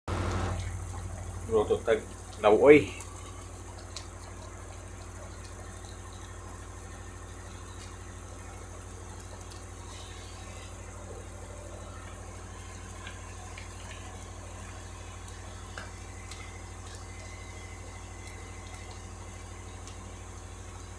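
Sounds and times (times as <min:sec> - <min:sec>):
pan simmering hiss and ticks: 0:00.1 - 0:20.9
steady low hum: 0:00.1 - 0:20.9.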